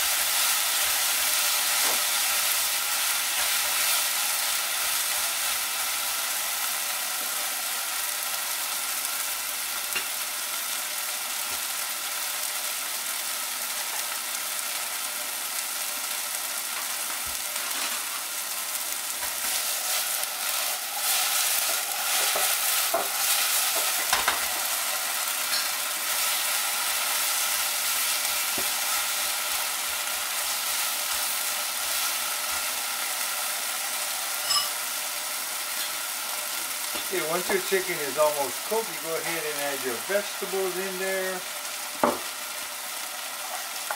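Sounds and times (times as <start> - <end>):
food sizzling in a frying pan: 0.0 - 43.9.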